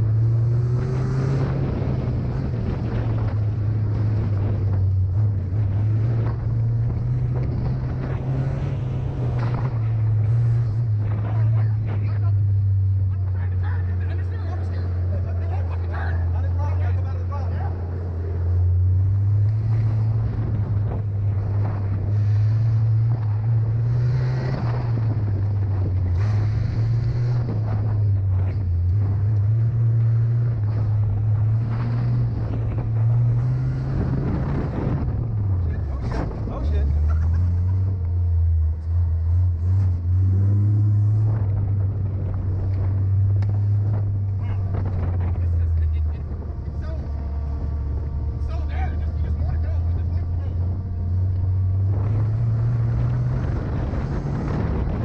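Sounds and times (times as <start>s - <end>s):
wind buffeting microphone: 0.0s - 13.1s, 17.8s - 55.0s
buggy engine running: 0.0s - 55.0s.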